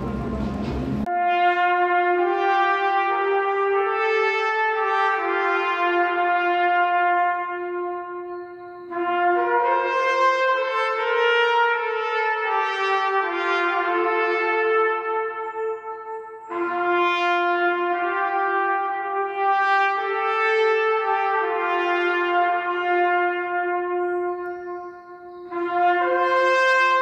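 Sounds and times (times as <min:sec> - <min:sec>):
brass instrument melody: 0:00.0 - 0:27.0.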